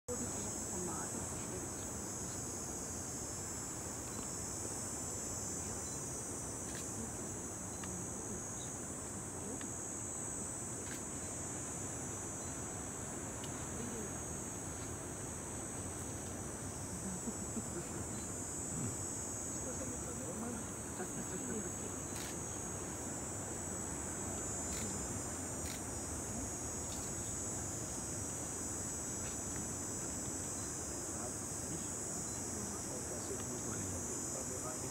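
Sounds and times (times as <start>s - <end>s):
night insects trilling: 0.1s - 34.9s.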